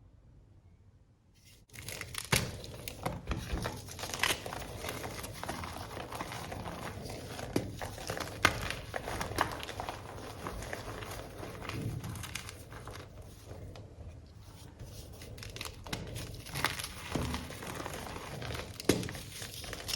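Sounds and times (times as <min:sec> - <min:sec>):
chalk crushing and crunching: 0:01.4 - 0:19.9.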